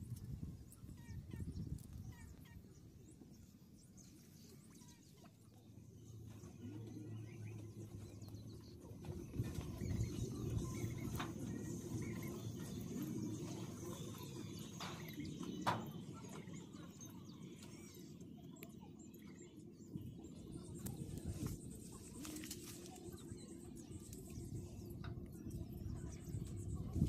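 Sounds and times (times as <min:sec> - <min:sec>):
birds chirping in the distance: 0:00.0 - 0:27.0.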